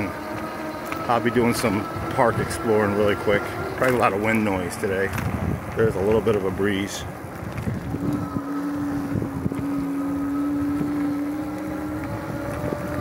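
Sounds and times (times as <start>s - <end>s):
electric hub motor whining: 0.0s - 13.0s
tyres on road: 0.0s - 13.0s
wind rumble on microphone: 0.0s - 13.0s.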